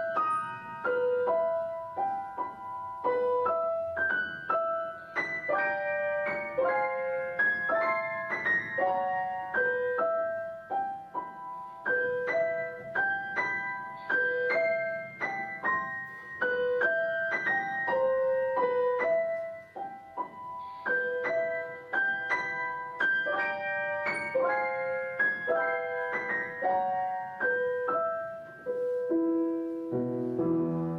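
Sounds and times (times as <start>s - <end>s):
gentle piano melody: 0.0s - 30.9s.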